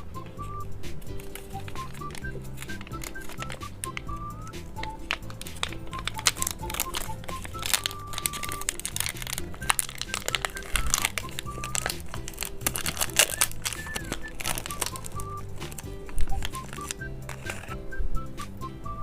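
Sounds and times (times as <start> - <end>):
background music with bass line: 0.0 - 19.0
candy wrapper crinkling and tearing: 1.0 - 17.9.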